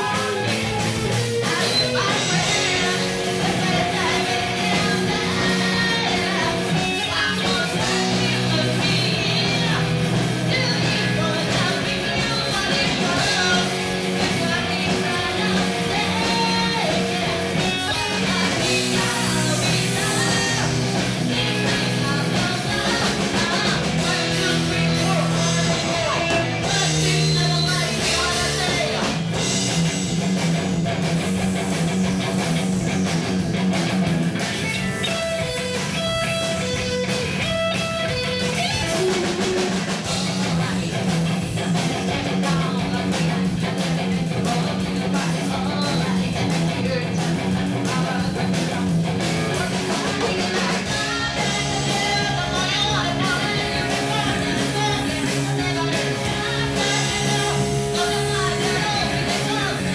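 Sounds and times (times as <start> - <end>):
person singing: 0.0 - 29.2, 38.8 - 59.9
bass guitar: 0.0 - 59.9
drums: 0.0 - 59.9
electric guitar: 0.0 - 59.9.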